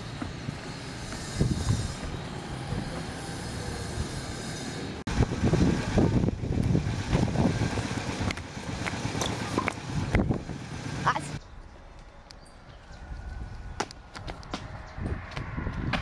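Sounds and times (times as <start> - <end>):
outdoor rumble and hiss: 0.0 - 16.0.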